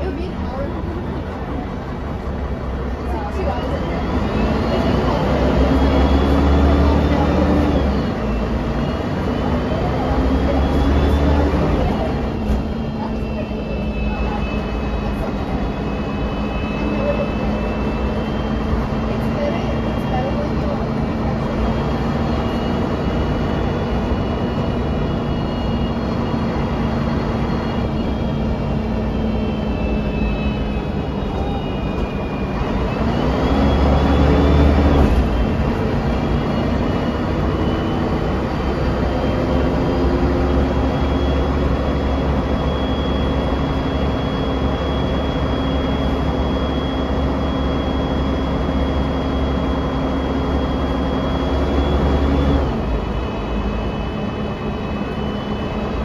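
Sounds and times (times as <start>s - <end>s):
bus engine and drivetrain whine: 0.0s - 56.0s
deep engine rumble: 0.0s - 56.0s.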